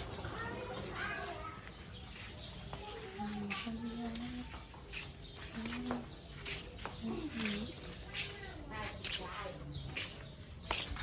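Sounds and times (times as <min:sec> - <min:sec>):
faint low voices: 0:00.0 - 0:11.0.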